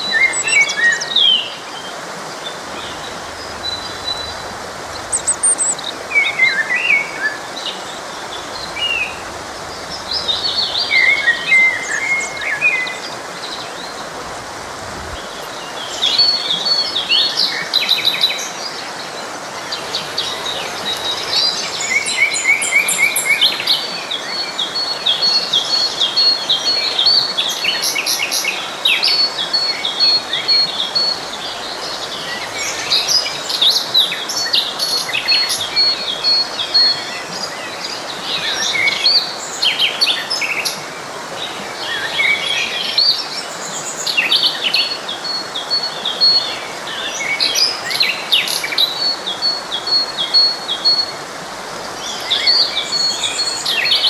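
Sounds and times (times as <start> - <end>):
flowing stream: 0.0 - 54.0
songbirds singing and chirping: 0.0 - 54.0.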